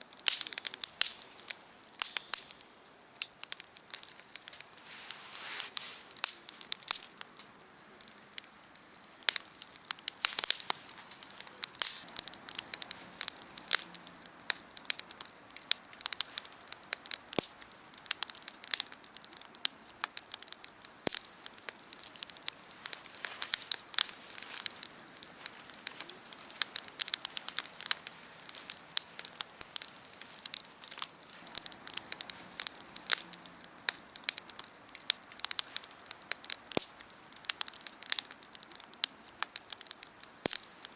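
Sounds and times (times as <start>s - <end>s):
faint steady hiss: 0.0s - 40.9s
wood fire crackling and popping: 0.0s - 40.9s.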